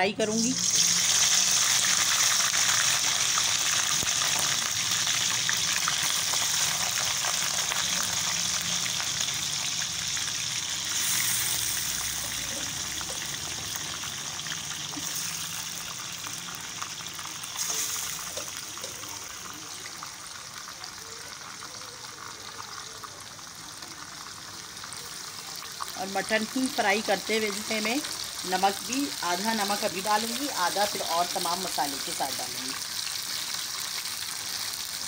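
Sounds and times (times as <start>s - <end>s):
meat sizzling in hot oil: 0.2s - 35.0s.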